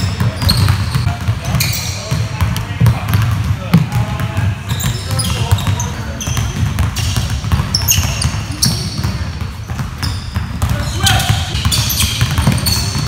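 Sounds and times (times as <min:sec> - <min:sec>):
basketballs bouncing on wooden floor: 0:00.0 - 0:13.0
sneakers squeaking: 0:00.0 - 0:13.0.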